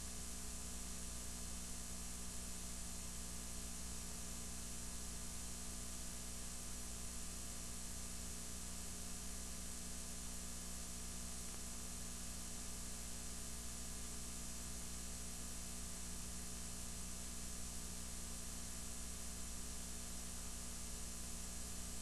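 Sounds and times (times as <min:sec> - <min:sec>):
low mains hum: 0:00.0 - 0:22.0.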